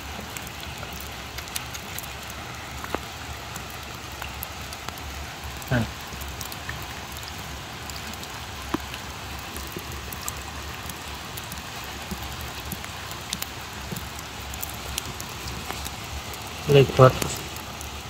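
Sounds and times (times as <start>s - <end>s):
rain dripping into pot of water: 0.0s - 18.0s
rain falling on wet ground: 0.0s - 18.0s.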